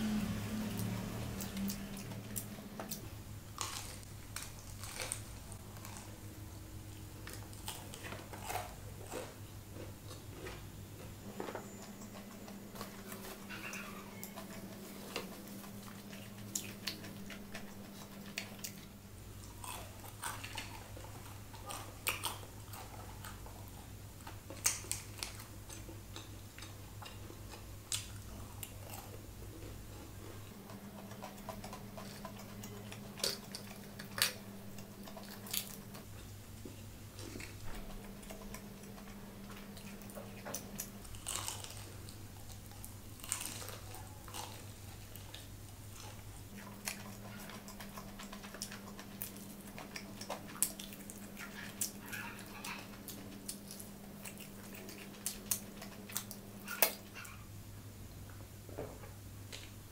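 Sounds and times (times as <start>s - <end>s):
steady low hum: 0.0s - 59.9s
crispy chicken chewing: 0.2s - 57.4s.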